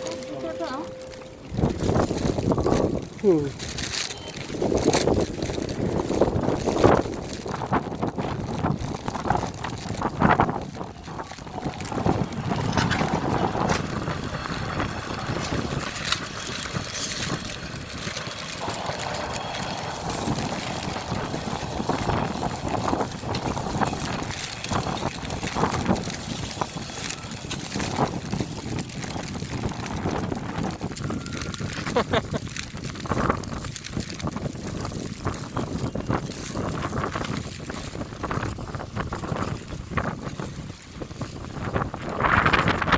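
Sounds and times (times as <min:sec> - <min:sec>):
wind gusting over microphone: 0:00.0 - 0:42.9.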